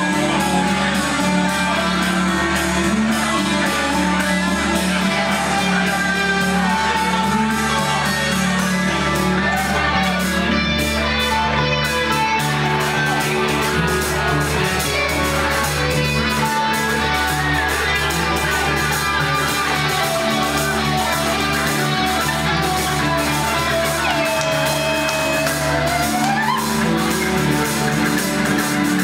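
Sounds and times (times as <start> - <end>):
guitar melody: 0.0 - 29.0
live band playing bellydance music: 0.0 - 29.0.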